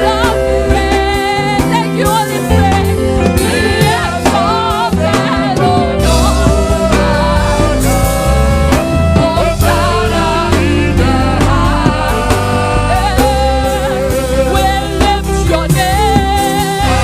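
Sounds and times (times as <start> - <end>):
band with bass and drums: 0.0 - 17.0
gospel voices singing: 0.0 - 17.0.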